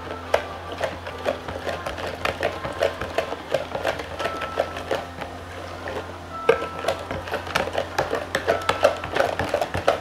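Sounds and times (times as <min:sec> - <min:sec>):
spoon stirring in plastic pitcher: 0:00.0 - 0:10.0.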